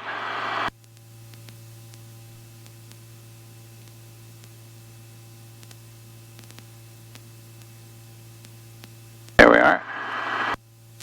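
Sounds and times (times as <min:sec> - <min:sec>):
electrical hum: 0:00.0 - 0:11.0
static hiss: 0:00.0 - 0:11.0.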